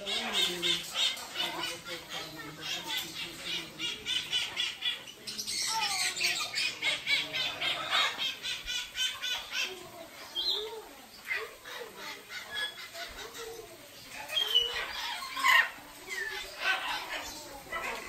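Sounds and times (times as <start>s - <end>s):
parrots squawking and chattering: 0.0s - 18.0s.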